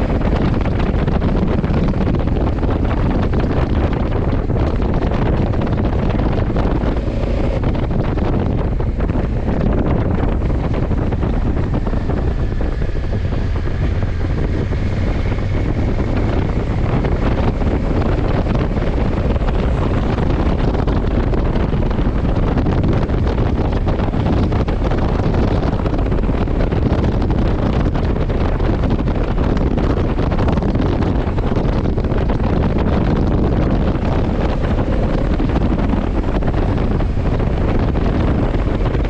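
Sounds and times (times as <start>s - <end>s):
motorcycle engine drone: 0.0s - 39.0s
wind rushing over microphone: 0.0s - 39.0s.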